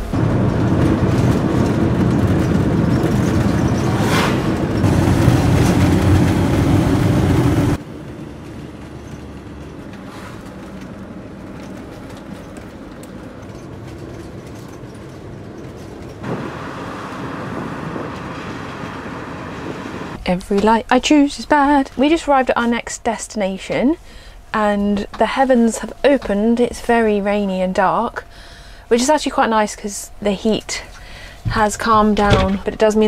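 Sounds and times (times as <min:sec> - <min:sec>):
road and engine noise in a cab: 0:00.0 - 0:22.8, 0:23.4 - 0:33.0.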